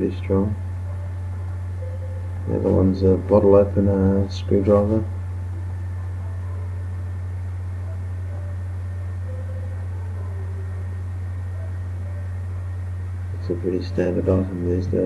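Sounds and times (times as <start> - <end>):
low-pitched background hum: 0.0 - 15.0.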